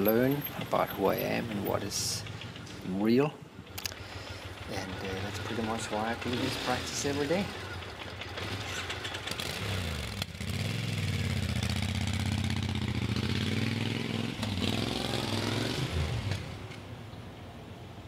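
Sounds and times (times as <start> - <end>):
motorcycle accelerating: 0.0 - 16.9.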